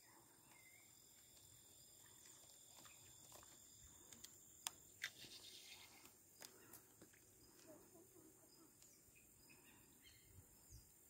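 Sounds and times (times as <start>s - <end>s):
crickets droning: 0.0s - 11.0s.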